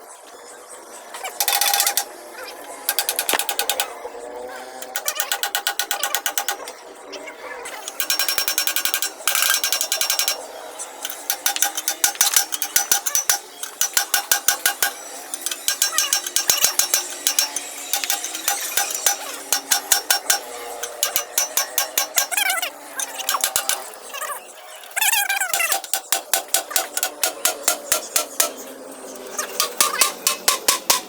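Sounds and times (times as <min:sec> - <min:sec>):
ratchet wrench clicking: 0:01.2 - 0:06.9, 0:07.8 - 0:24.2, 0:24.8 - 0:31.0.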